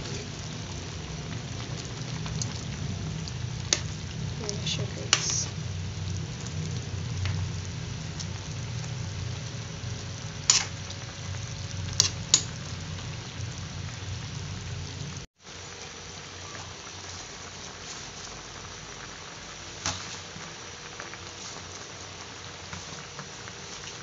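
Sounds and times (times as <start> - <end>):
broth boiling in a wok: 0.0 - 24.0.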